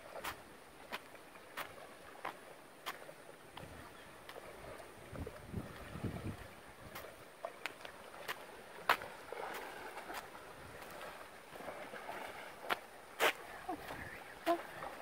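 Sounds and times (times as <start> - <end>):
horse splashing through water: 0.0 - 15.0.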